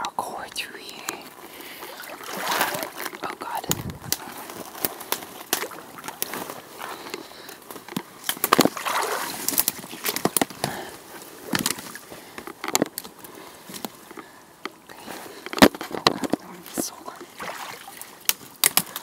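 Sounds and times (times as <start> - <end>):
footsteps in wet mud and leaves: 1.0 - 19.0.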